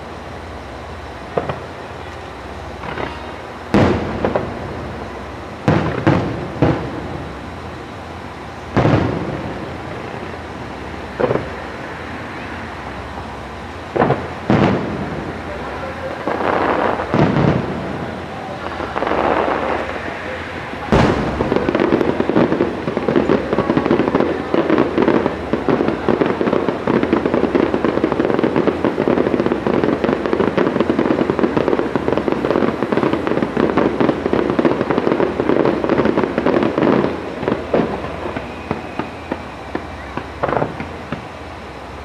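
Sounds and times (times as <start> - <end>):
fireworks crackling and banging: 0.0 - 42.0.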